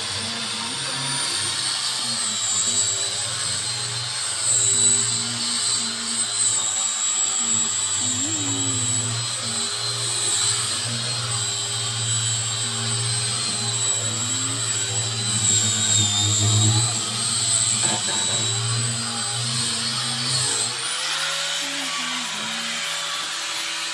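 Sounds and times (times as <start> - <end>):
electric power tool whining: 0.0 - 23.9.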